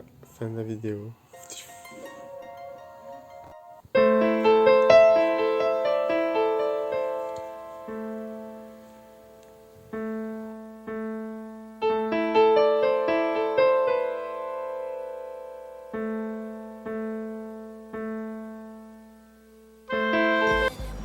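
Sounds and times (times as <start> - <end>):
piano music: 1.4 - 21.0.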